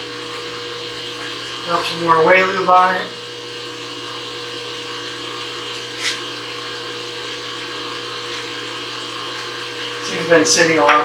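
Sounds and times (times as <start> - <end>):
milling machine hum: 0.0 - 11.0.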